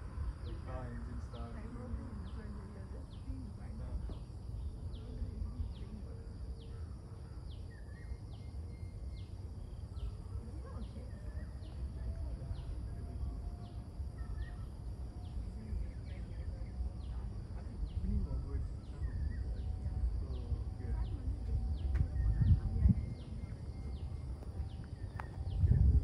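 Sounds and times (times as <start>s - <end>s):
low steady rumble: 0.0s - 26.0s
bird chirping: 0.2s - 26.0s.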